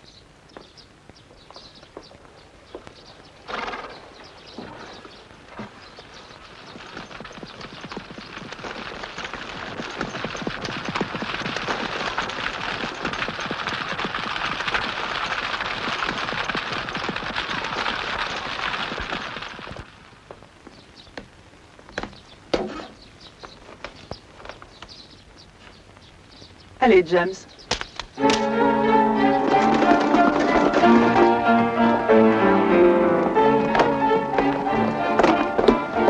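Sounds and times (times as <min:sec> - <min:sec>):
hooves and carriage wheels rattling: 0:00.0 - 0:36.0.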